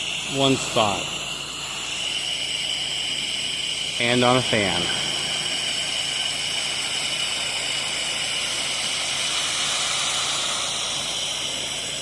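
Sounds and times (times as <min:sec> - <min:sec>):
high whine: 0:00.0 - 0:12.0
pressure washer spraying: 0:00.0 - 0:12.0.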